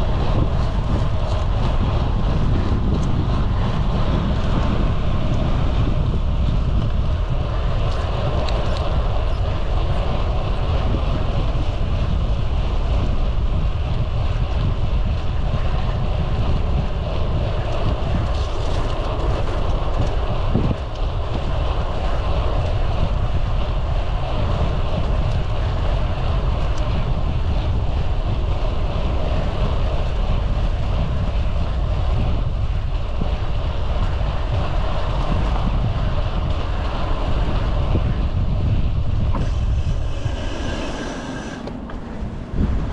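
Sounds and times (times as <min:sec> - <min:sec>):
road noise: 0:00.0 - 0:42.9
wind buffeting microphone: 0:00.0 - 0:42.9.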